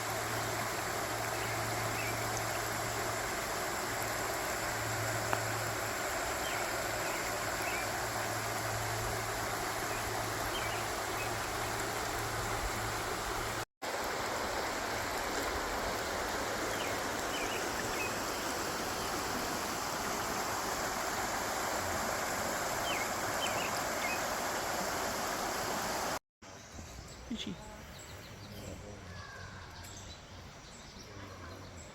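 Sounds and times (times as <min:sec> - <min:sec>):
flowing water rushing: 0:00.0 - 0:26.2.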